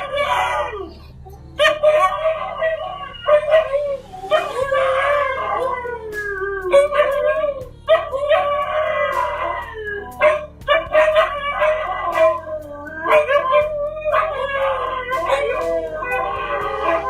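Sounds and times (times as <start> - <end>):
husky howling: 0.0 - 17.0.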